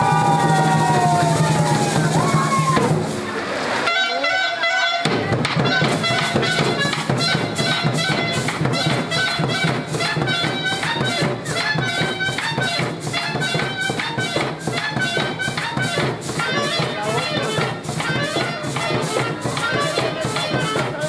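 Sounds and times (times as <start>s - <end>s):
upbeat dance music with brass: 3.8s - 21.0s.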